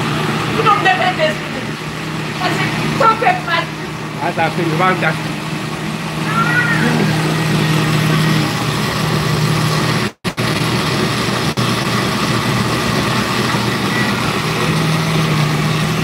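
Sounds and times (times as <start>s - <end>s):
blender running: 0.0s - 16.0s.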